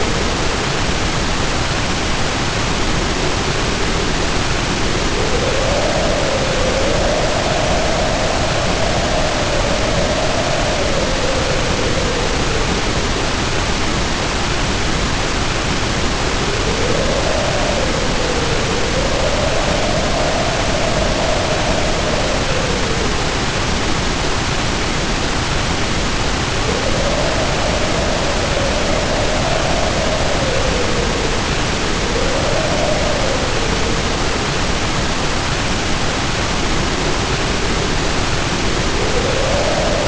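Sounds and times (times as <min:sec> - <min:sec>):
heavy rain pouring: 0:00.0 - 0:40.0
wind howling: 0:00.0 - 0:40.0.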